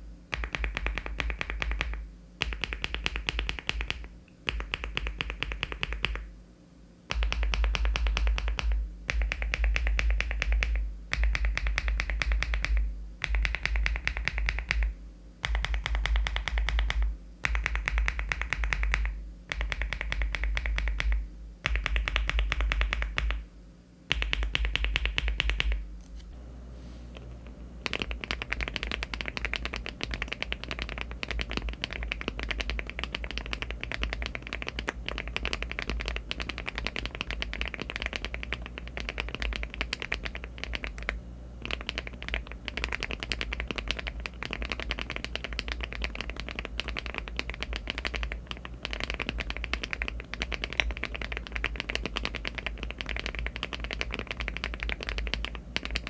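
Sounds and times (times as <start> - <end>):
mechanical keyboard typing: 0.3 - 6.3, 7.1 - 23.4, 24.1 - 25.8, 27.8 - 56.0.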